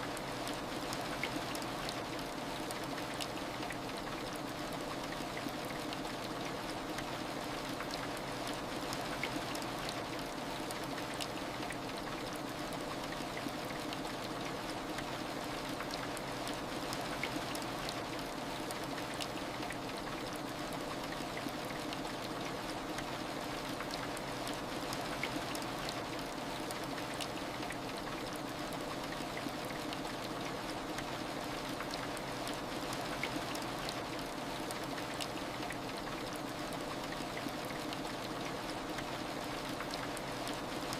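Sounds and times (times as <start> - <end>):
heavy rain with drop ticks: 0.1 - 40.9.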